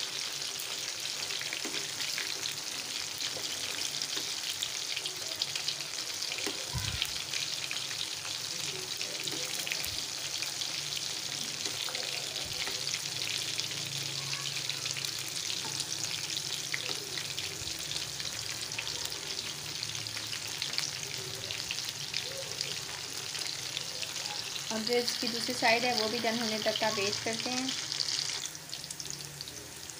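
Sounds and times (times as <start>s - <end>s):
chicken deep-frying in oil: 0.0s - 29.9s.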